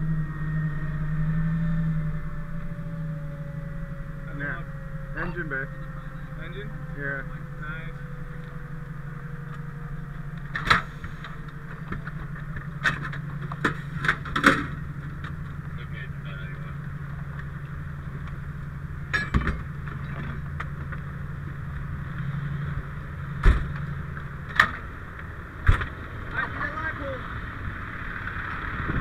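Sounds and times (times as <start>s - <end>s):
diesel engine idling hum: 0.0s - 29.0s.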